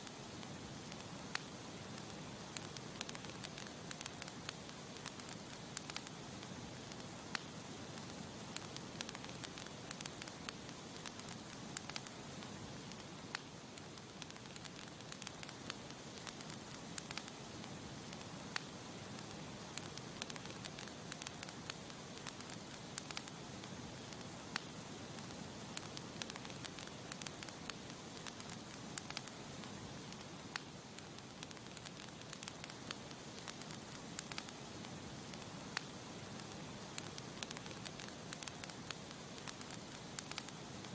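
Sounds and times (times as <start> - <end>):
campfire crackling and popping: 0.0 - 40.9
soft fire hiss: 0.0 - 40.9.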